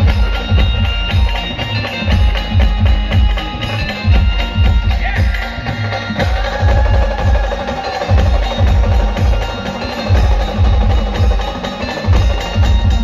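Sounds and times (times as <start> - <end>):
thumping drum beat: 0.0 - 13.0.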